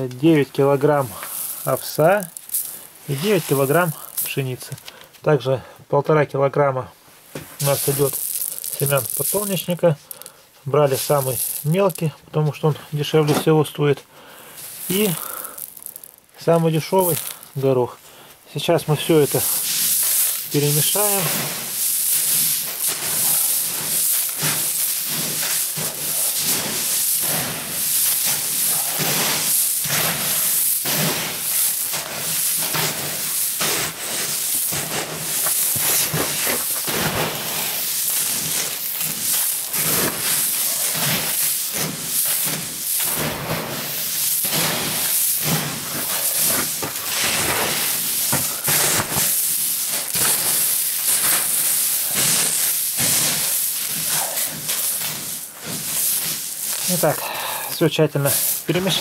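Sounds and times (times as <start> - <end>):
hand swishing through grain: 0.0 - 4.9, 7.4 - 13.8, 14.5 - 18.0, 18.6 - 59.0
dry grain rustling: 0.0 - 5.0, 7.2 - 59.0.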